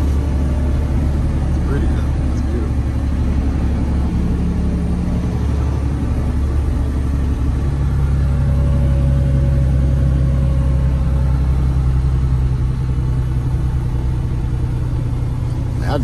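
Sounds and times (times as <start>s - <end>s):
road noise: 0.0s - 16.0s
truck diesel engine hum: 0.0s - 16.0s.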